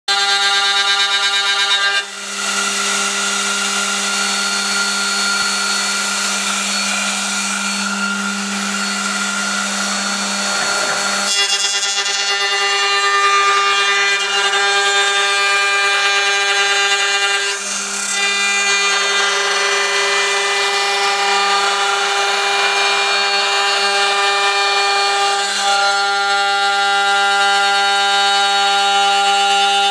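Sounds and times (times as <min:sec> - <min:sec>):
router spindle motor whining: 0:00.1 - 0:29.9.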